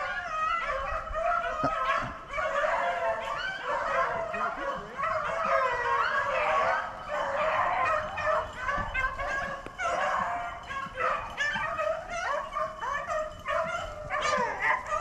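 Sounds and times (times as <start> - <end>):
dogs baying: 0.0 - 15.0.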